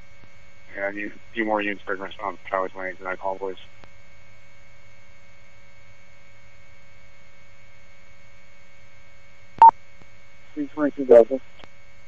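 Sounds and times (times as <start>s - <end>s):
electrical hum on radio feed: 0.0s - 12.0s.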